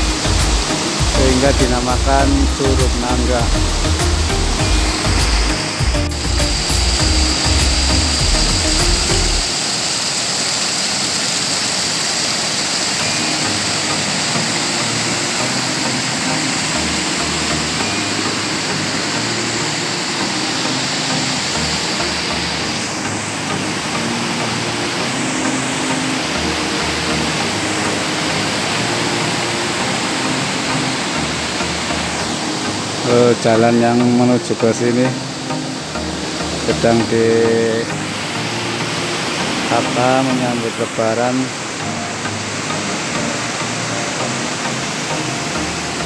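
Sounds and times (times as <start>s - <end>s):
waterfall rushing over rocks: 0.0s - 46.0s.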